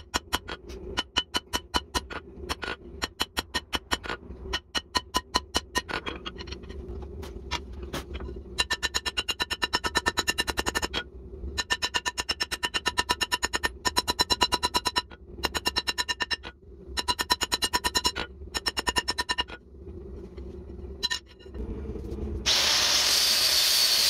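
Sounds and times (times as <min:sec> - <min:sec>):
steady low hum: 0:00.0 - 0:23.3.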